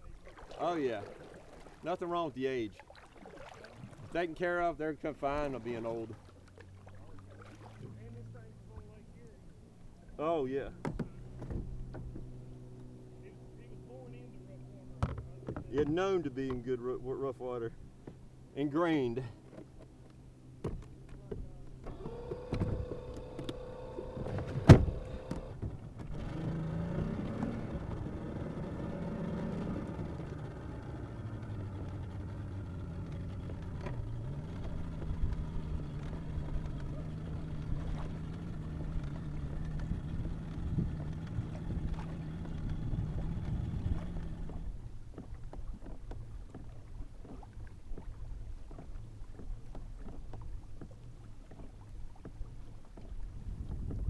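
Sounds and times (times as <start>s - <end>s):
boat engine humming: 0.0s - 54.0s.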